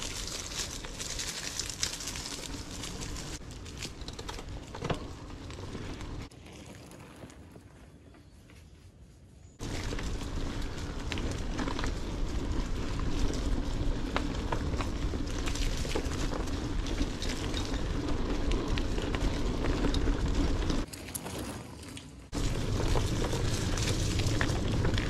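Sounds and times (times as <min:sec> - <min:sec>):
bike rattling over bumps: 0:00.0 - 0:07.8, 0:09.6 - 0:25.0
bike tyres rumbling on dirt: 0:00.0 - 0:08.4, 0:09.6 - 0:25.0.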